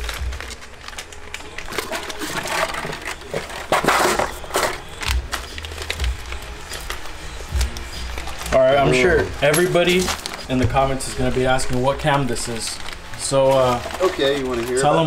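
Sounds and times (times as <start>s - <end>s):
cardboard and paper rustling: 0.0s - 15.0s.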